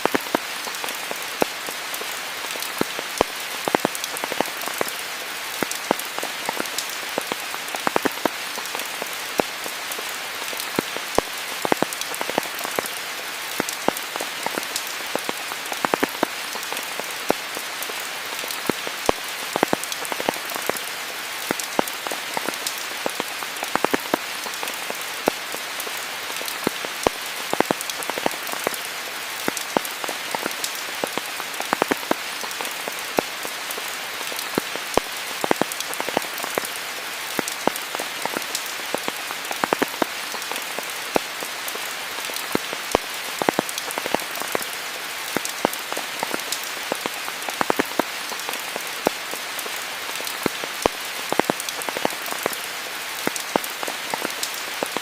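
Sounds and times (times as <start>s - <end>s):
raindrops hitting nearby surfaces: 0.0s - 55.0s
steady rain hiss: 0.0s - 55.0s.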